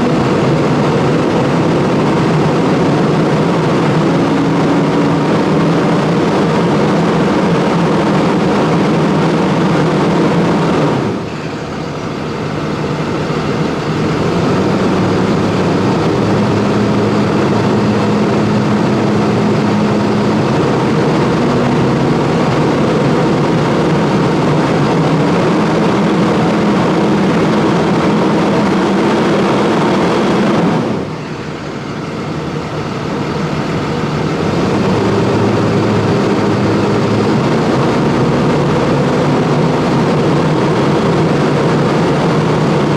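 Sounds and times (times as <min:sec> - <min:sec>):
diesel bus engine running: 0:00.0 - 0:42.9.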